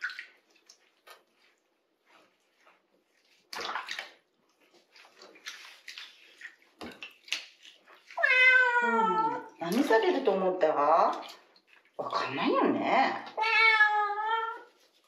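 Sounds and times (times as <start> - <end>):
water splashing in a sink: 0.0 - 15.0.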